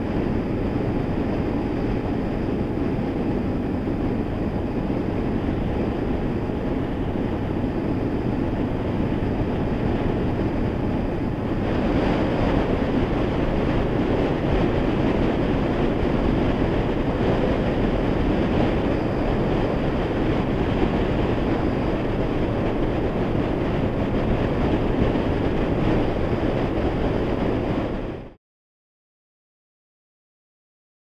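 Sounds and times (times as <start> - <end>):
motorcycle engine cruising: 0.0 - 28.0
road noise: 0.0 - 28.4
wind rushing: 0.0 - 28.4.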